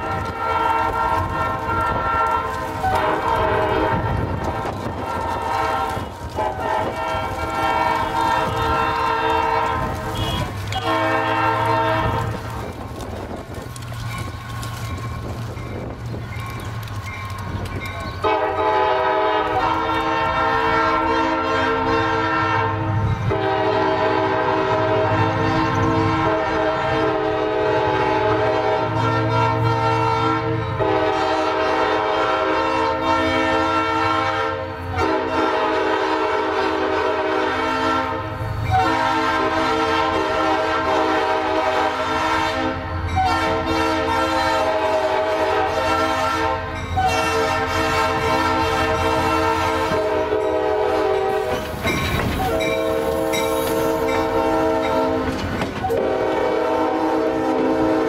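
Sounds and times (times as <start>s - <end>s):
locomotive air horn blasts: 0.0s - 12.5s, 18.2s - 58.0s.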